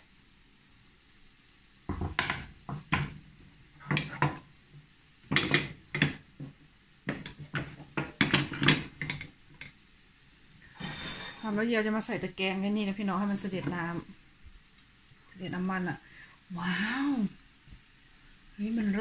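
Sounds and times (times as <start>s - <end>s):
oil deep-frying sizzle: 0.0s - 19.0s.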